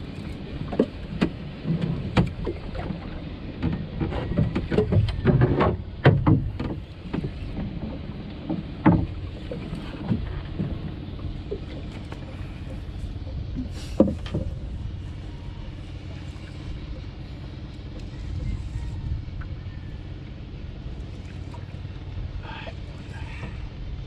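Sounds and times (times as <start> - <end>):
water slapping against boat hull: 0.0 - 20.2
wind and sea rushing: 0.0 - 24.0.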